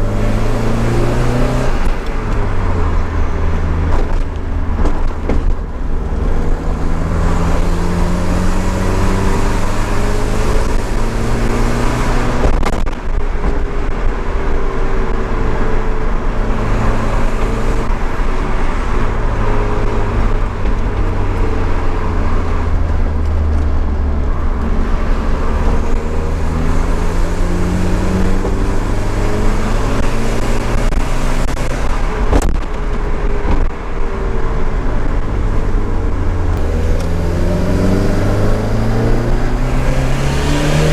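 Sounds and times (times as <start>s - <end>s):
turbocharged car engine accelerating: 0.0s - 40.9s.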